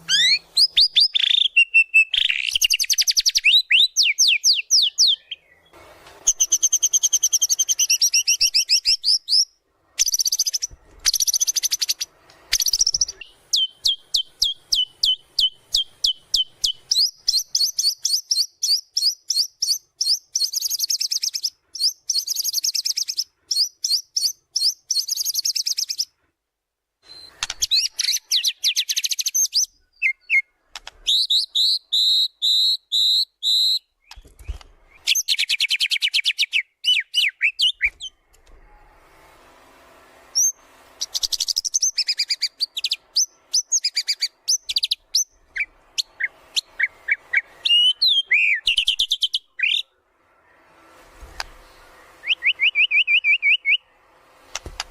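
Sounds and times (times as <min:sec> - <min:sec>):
songbird singing trills and whistles: 0:00.0 - 0:26.1, 0:27.0 - 0:38.1, 0:40.4 - 0:49.9, 0:52.0 - 0:53.9.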